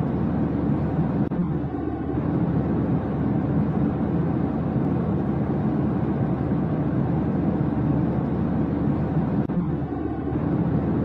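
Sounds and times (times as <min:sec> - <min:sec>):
low steady rumbling: 0:00.0 - 0:11.0.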